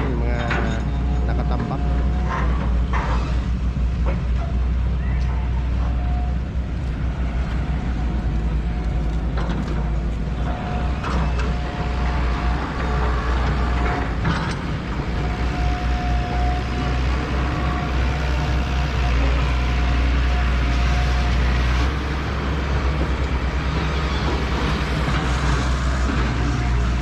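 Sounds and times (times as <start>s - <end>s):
diesel engine rumble: 0.0s - 27.0s.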